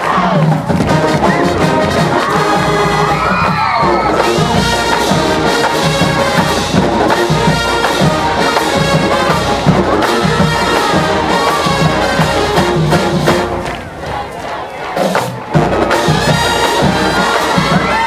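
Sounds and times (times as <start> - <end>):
brass section playing: 0.1 - 18.0
marching percussion beat: 0.1 - 18.0.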